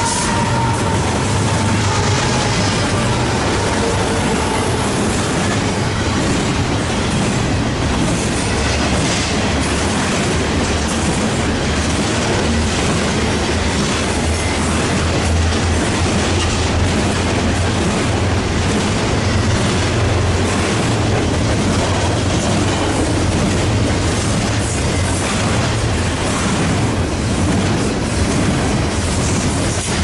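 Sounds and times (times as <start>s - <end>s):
freight train wheels on rail: 0.0s - 30.0s.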